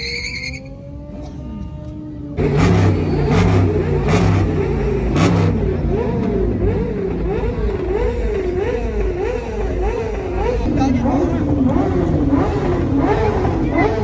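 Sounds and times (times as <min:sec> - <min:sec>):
car engine revving: 0:02.3 - 0:14.0.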